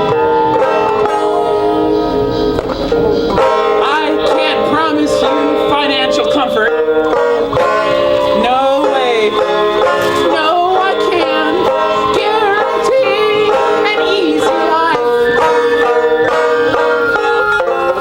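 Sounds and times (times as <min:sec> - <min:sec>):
acoustic band playing: 0:00.0 - 0:18.0.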